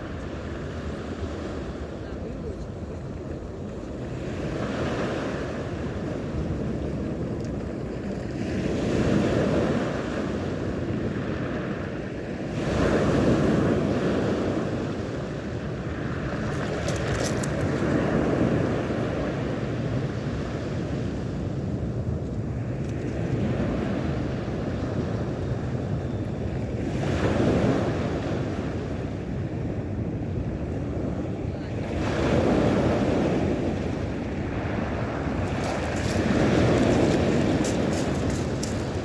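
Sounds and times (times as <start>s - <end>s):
sea waves washing in: 0.0s - 25.9s, 26.8s - 39.0s
wind rumbling on microphone: 0.0s - 39.0s.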